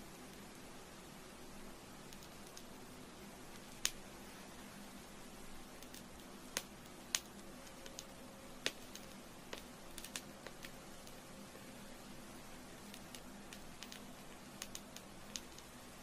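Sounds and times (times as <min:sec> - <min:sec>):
candle wick crackling: 0:00.0 - 0:16.0
faint steady hiss: 0:00.0 - 0:16.0.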